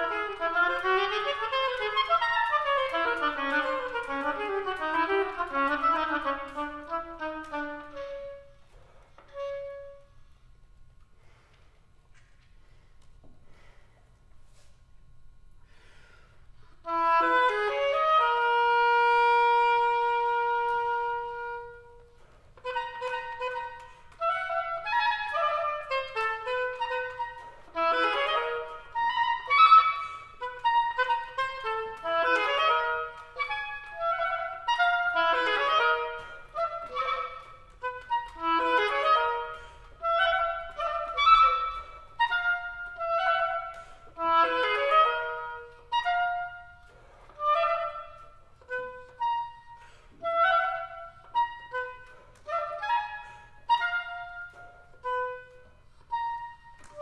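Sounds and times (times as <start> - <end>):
solo oboe playing: 0.0 - 11.5, 15.8 - 57.0.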